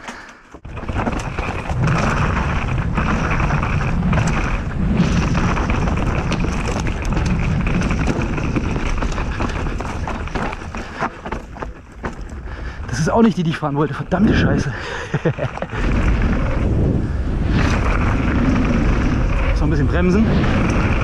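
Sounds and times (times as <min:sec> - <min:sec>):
bike rattling: 0:00.0 - 0:21.0
wind and tyres rushing: 0:00.0 - 0:21.0.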